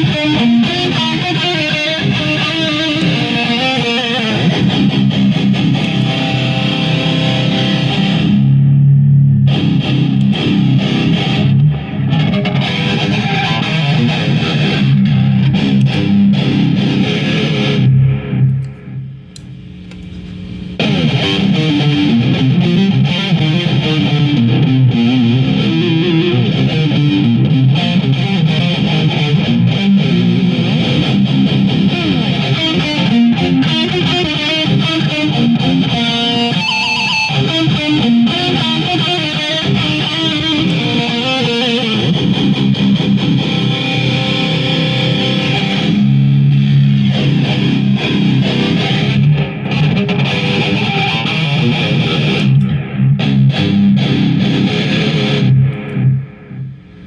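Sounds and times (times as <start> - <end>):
distorted electric guitar riffs: 0.0 - 57.0.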